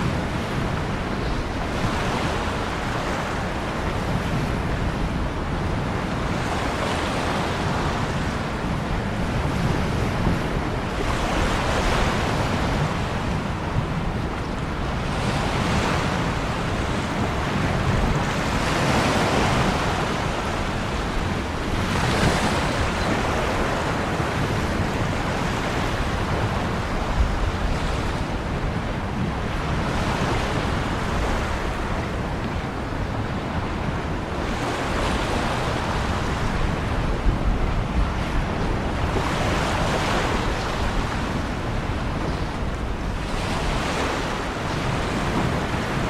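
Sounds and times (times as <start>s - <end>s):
ocean waves breaking: 0.0s - 46.0s.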